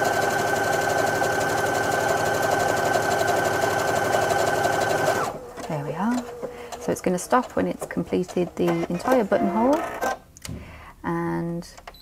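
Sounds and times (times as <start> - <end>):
sewing machine stitching: 0.0 - 10.2.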